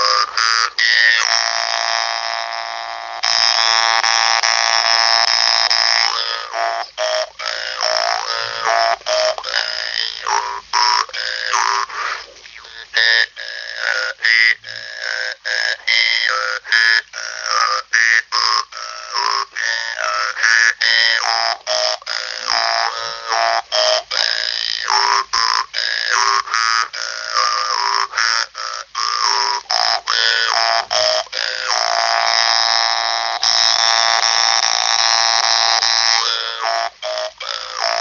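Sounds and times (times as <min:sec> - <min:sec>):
jaw harp buzzing melody: 0:00.0 - 0:38.0.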